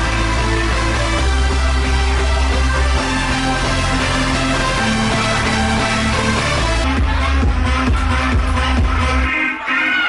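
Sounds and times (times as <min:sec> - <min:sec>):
electronic dance music with bass: 0:00.0 - 0:10.0.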